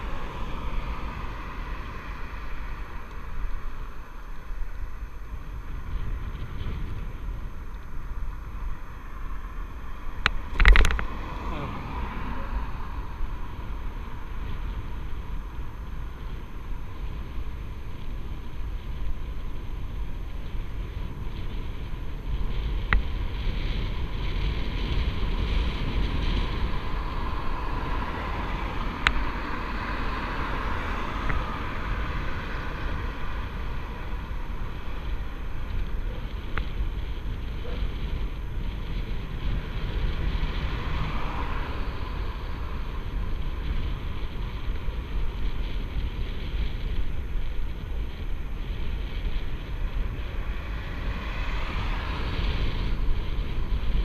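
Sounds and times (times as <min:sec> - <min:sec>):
tyre and road noise: 0:00.0 - 0:54.0
wind buffeting microphone: 0:00.0 - 0:54.0.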